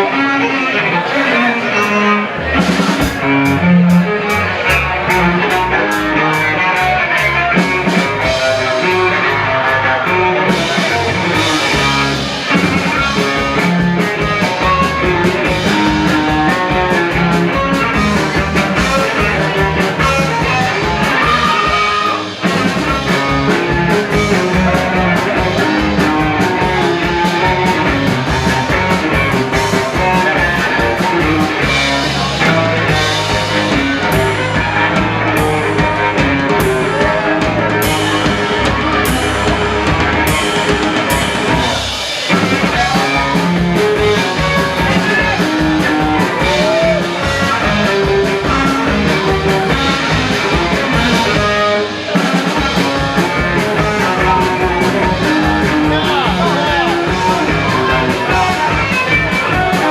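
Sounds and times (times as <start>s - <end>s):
fast rock drum beat: 0.0s - 59.9s.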